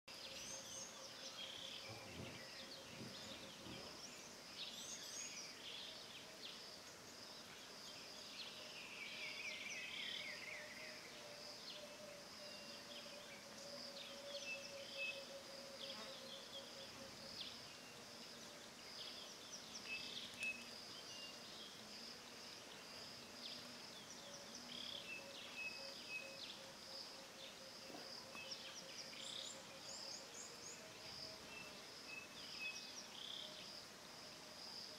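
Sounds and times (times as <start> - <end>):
high insect drone: 0.1 - 34.9.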